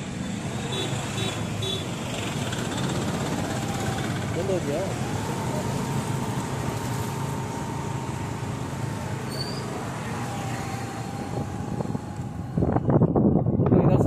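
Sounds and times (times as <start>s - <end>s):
road and wind noise: 0.0s - 14.0s
motorcycle engine droning: 1.4s - 13.7s
thin steady whine: 2.1s - 13.7s.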